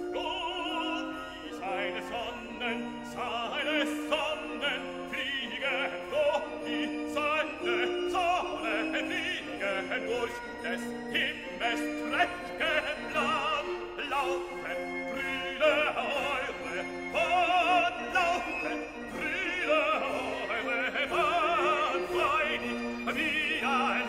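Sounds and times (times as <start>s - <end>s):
operatic singing with vibrato: 0.0s - 24.0s
orchestra playing: 0.0s - 24.0s.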